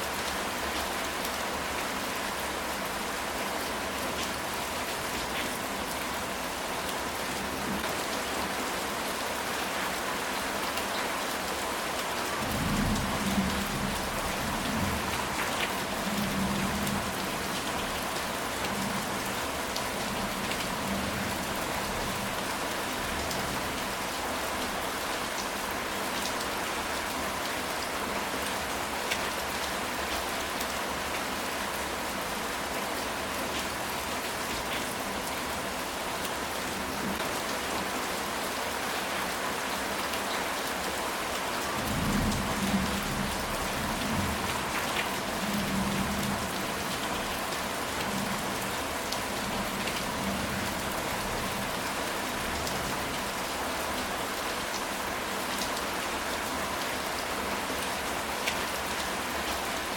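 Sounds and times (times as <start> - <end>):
heavy rain on a tile roof: 0.0 - 59.9.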